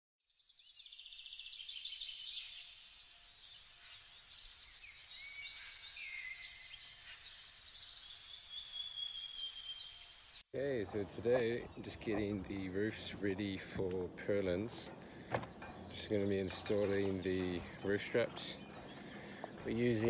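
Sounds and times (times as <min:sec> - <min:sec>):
songbirds singing: 0:00.3 - 0:10.0, 0:10.6 - 0:20.0
faint outdoor background noise: 0:00.7 - 0:20.0.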